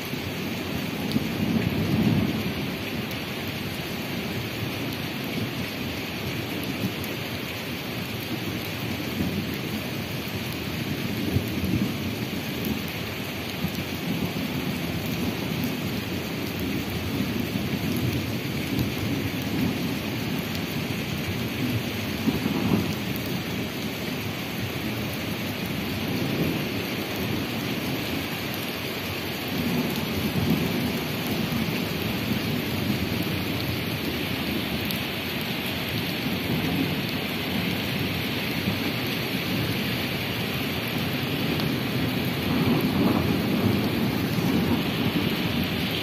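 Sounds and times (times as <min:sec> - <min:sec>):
heavy rain on pavement: 0:00.0 - 0:46.0.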